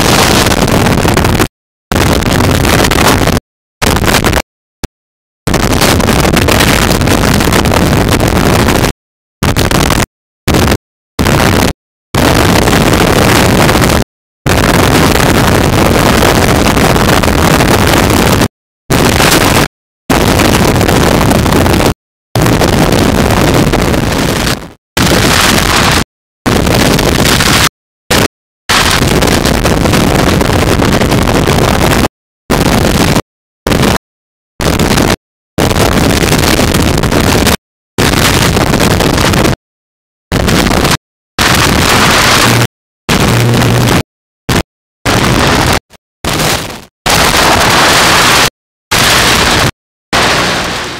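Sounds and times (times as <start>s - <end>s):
wind blasting microphone: 0.0s - 4.5s, 5.5s - 34.0s, 34.6s - 39.6s, 40.3s - 50.9s.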